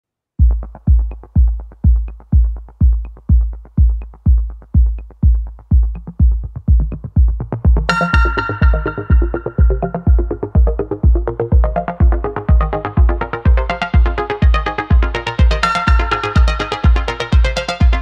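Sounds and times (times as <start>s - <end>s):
electronic dance music kick drum: 0.4s - 18.0s
synth chords: 0.4s - 18.0s.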